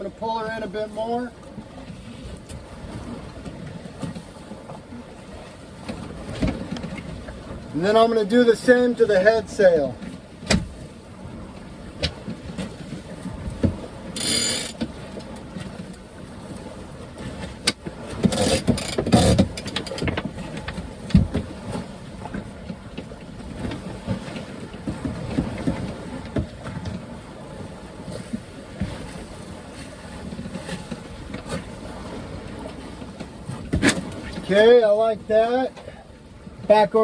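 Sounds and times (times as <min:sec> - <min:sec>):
water noise: 0:00.0 - 0:37.0
wind: 0:00.0 - 0:37.0.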